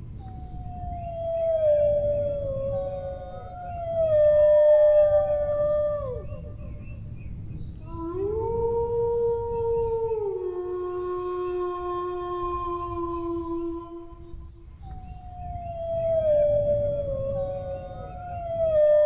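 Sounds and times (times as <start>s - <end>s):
dogs howling: 0.3s - 6.9s, 7.9s - 19.0s.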